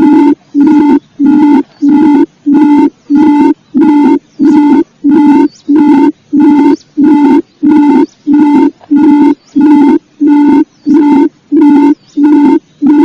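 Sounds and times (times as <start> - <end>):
faint high chirp: 0.0 - 13.0
quail low hooting call: 0.0 - 13.0.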